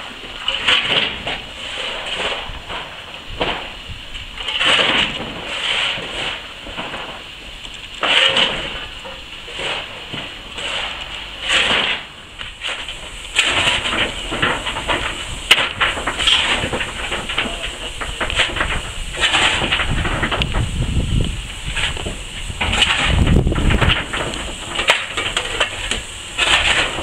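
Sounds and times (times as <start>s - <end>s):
steam hissing: 0.0s - 27.0s
steam locomotive exhaust chuffs: 0.0s - 27.0s.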